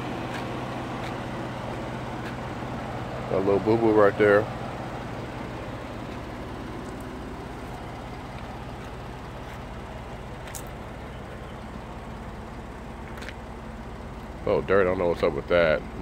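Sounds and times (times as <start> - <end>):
outdoor ambience: 0.0 - 16.0
vehicle engine idling: 0.0 - 16.0.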